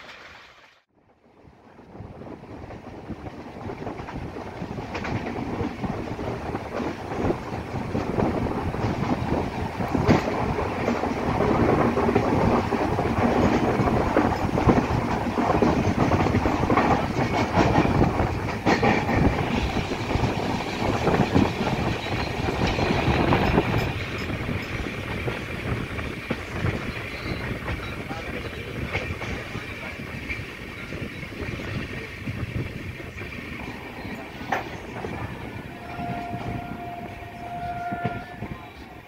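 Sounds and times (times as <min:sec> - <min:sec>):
train wheels rumbling on rails: 0:01.1 - 0:39.0
clacks over rail joints: 0:02.6 - 0:39.0.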